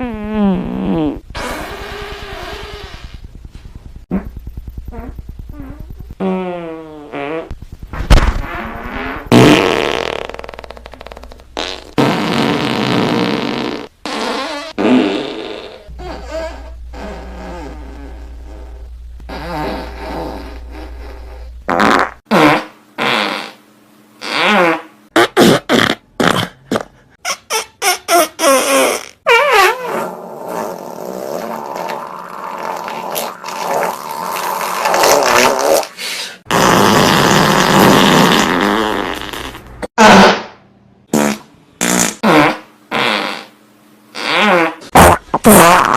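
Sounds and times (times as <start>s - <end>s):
fart sound effects: 0.0s - 23.6s, 24.2s - 45.9s.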